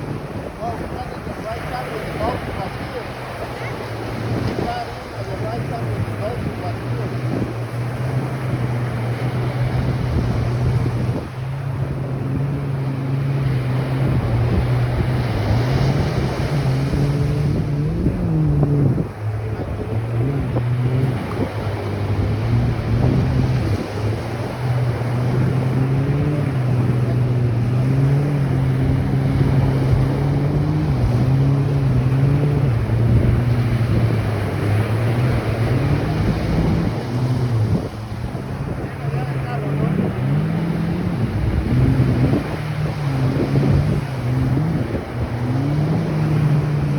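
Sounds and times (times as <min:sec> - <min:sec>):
engine droning: 0:00.0 - 0:46.9
ocean waves washing on beach: 0:00.0 - 0:46.9
surf: 0:00.0 - 0:46.9
wind buffeting microphone: 0:00.0 - 0:46.9.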